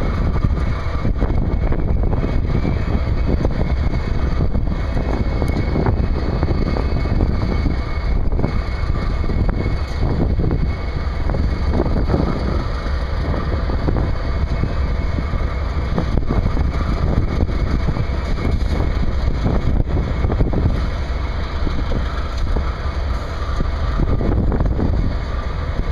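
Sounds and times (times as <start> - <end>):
locomotives idling: 0.0 - 25.9
wind buffeting microphone: 0.0 - 25.9.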